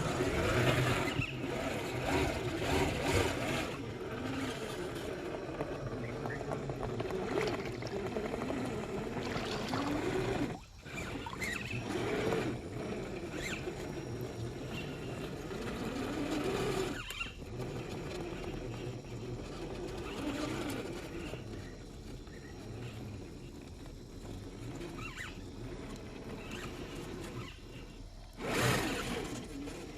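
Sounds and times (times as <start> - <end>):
toy car motor whining: 0.0 - 29.9.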